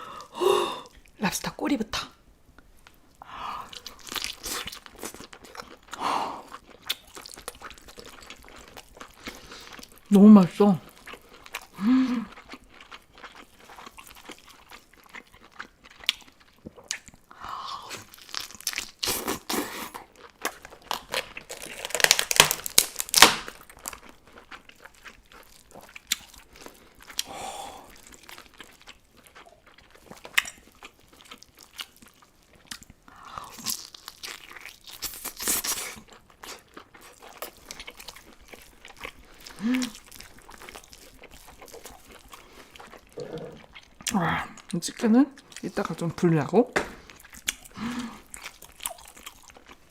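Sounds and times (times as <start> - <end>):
person chewing: 3.6 - 10.1, 10.8 - 46.1, 46.8 - 49.9.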